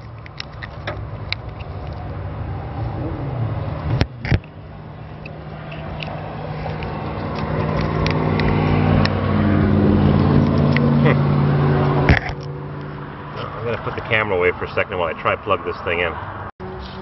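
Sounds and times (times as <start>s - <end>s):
vehicle engine running: 0.0s - 14.8s.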